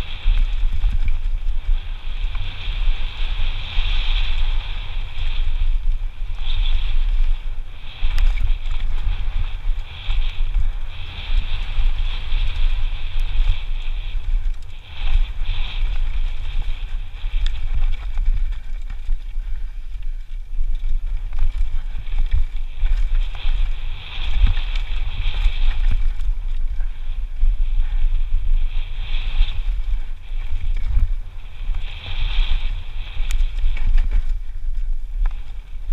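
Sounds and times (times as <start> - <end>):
bike rattling and knocking: 0.0 - 4.8, 5.4 - 28.1, 28.8 - 35.9
wind buffeting microphone: 0.0 - 35.9.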